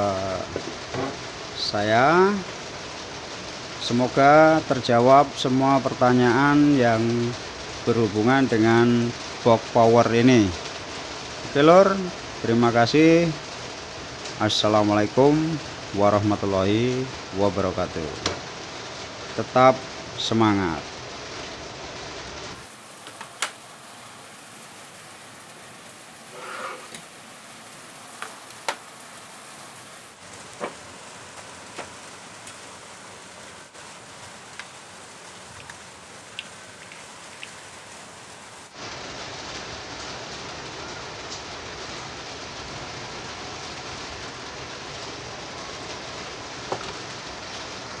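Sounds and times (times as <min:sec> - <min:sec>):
steady hiss: 0:00.0 - 0:48.0.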